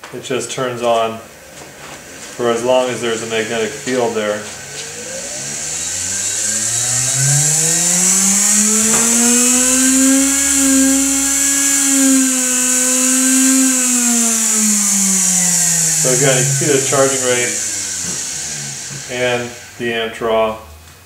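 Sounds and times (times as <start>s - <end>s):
pulse motor humming whine: 0.6s - 21.0s.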